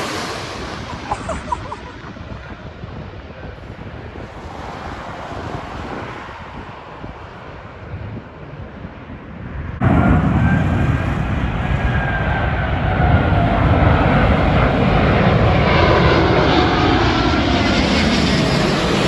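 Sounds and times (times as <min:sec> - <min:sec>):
jet engines rumbling and whining: 0:00.0 - 0:19.0
wind buffeting microphone: 0:00.0 - 0:19.0.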